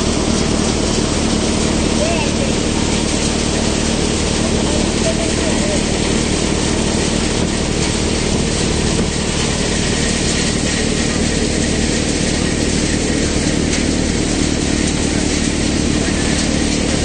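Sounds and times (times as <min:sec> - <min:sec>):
thresher engine drone: 0:00.0 - 0:17.0.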